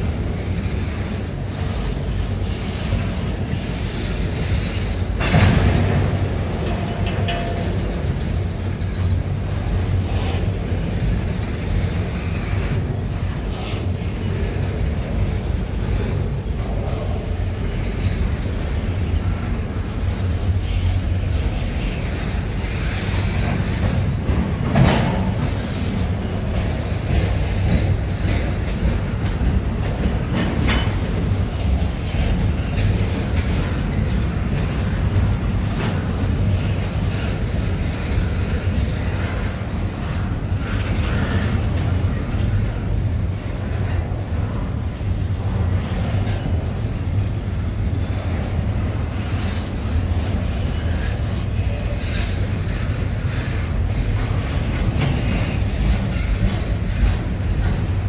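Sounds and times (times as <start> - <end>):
freight train wheels rumbling: 0.0 - 58.0
train cars clanking: 0.0 - 58.0.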